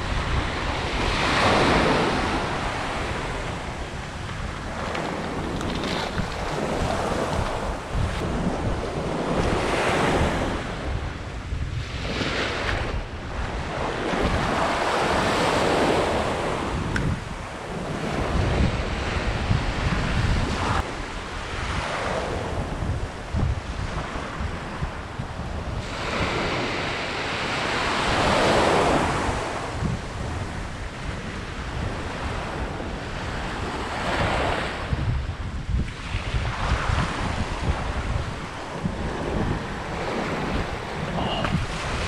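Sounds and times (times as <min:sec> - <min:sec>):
small waves breaking on shore: 0:00.0 - 0:35.1, 0:35.8 - 0:42.0
wind buffeting microphone: 0:00.0 - 0:42.0.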